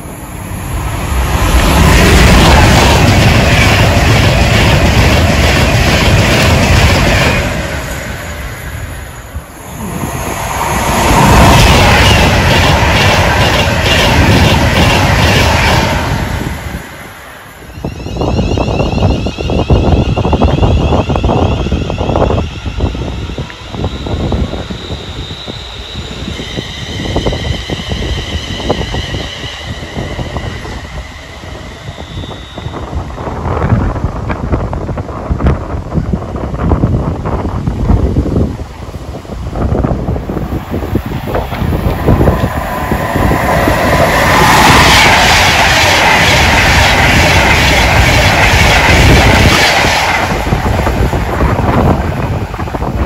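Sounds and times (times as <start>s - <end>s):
high-pitched whining tones: 0.0s - 35.4s, 39.6s - 53.0s
train rumble: 0.0s - 53.0s
wind buffeting microphone: 0.0s - 53.0s.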